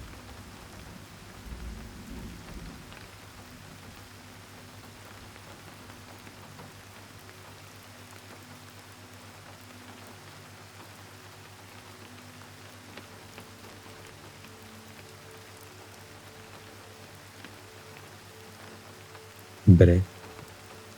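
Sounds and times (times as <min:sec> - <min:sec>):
soft rain falling: 0:00.0 - 0:20.9.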